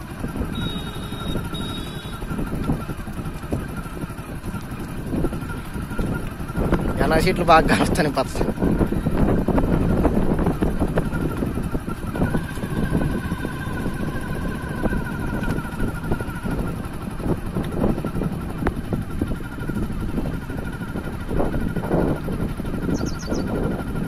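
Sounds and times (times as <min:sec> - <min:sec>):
vehicle engine and road rumble: 0:00.0 - 0:24.0
wind noise: 0:00.0 - 0:24.0.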